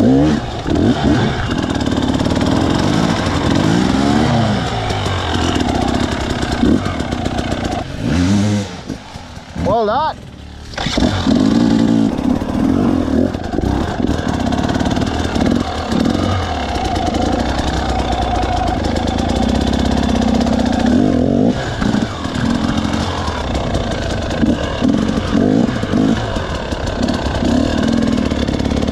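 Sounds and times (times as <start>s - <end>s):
two-stroke motorcycle engine revving: 0.0s - 28.9s.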